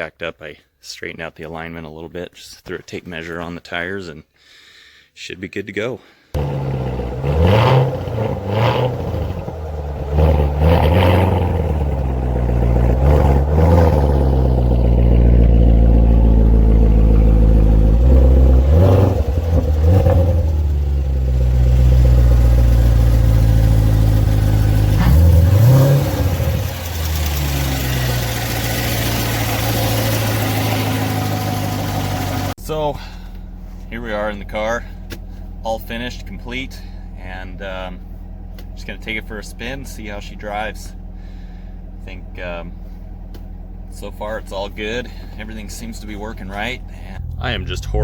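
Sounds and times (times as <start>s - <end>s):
car engine revving: 6.4s - 32.6s, 33.6s - 48.0s.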